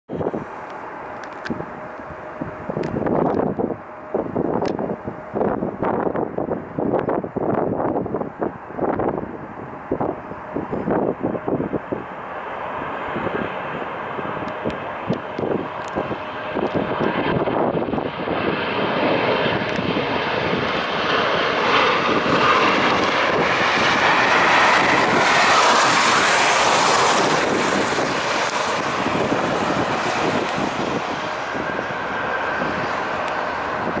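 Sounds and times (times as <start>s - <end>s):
jet airliner engines passing low: 0.1s - 34.0s
wind gusts on microphone: 0.1s - 34.0s.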